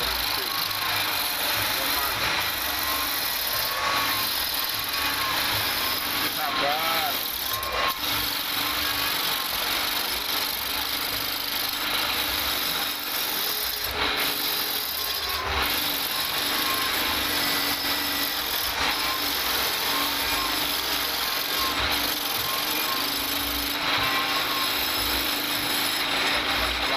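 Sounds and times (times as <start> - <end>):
wood lathe cutting wood: 0.0 - 26.9.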